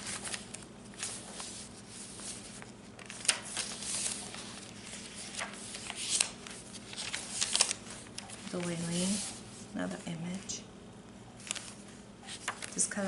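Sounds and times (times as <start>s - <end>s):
paper pages rustling: 0.0s - 9.7s, 11.4s - 13.0s
faint steady hum: 0.0s - 13.0s.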